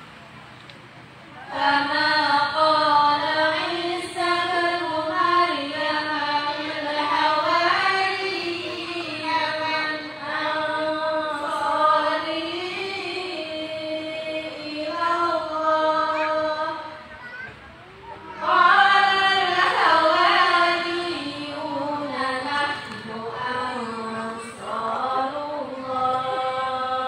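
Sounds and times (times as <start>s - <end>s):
women chanting in unison: 1.4s - 17.1s, 18.4s - 27.0s.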